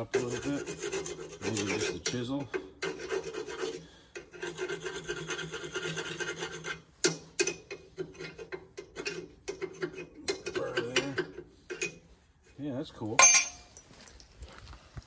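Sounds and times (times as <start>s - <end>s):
chisel scraping rusty metal: 0.0s - 13.7s.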